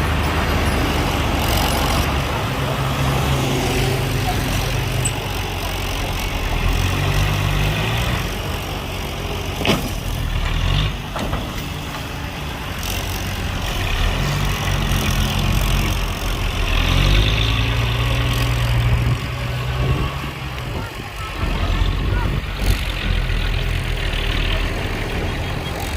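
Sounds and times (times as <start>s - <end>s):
heavy diesel engine running: 0.0s - 25.9s.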